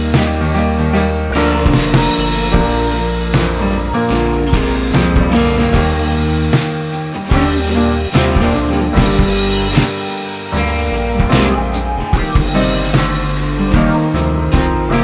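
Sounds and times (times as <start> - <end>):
upbeat rock music: 0.0 - 15.0.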